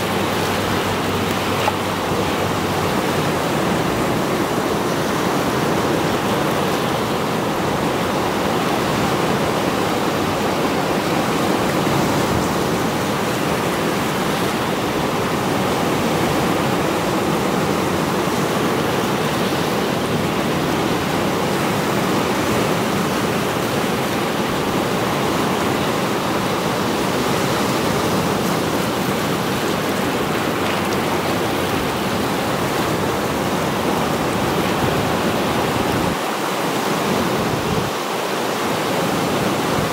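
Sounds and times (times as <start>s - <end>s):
waves washing over rocky shore: 0.0s - 39.9s.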